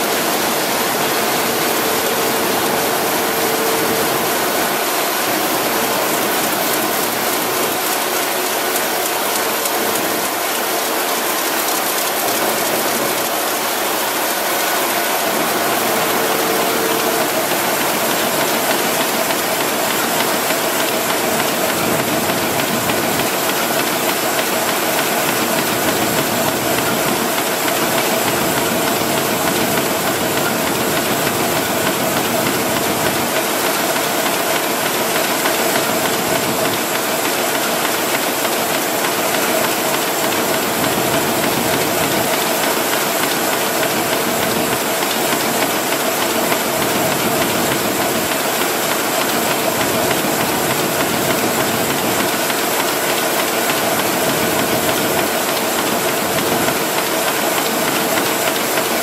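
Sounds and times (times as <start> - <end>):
printing press hiss and clatter: 0.0 - 59.0.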